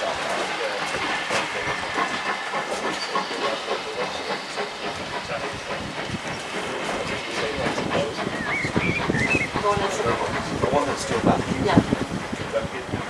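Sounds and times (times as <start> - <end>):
steam hissing: 0.0 - 13.0
train wheels clicking and knocking: 0.0 - 13.0.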